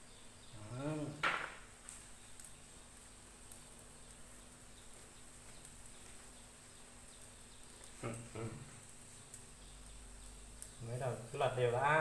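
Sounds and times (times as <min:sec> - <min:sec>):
meat grilling hiss and crackles: 0:00.0 - 0:12.0.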